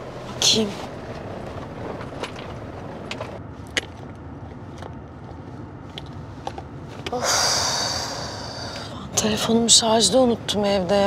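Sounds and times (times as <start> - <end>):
low rumble inside car: 0.0 - 11.0.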